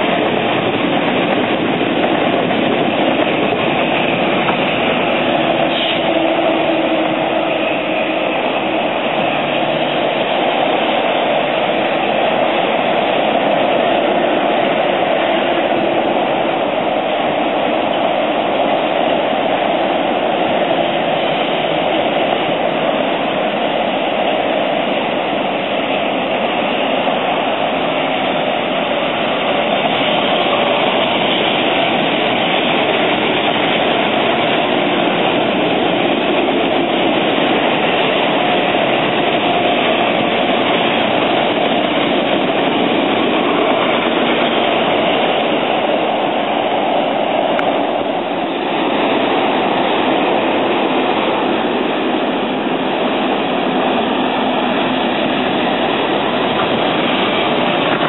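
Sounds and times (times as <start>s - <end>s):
electric train: 0.0s - 58.0s
highway traffic: 0.0s - 58.0s.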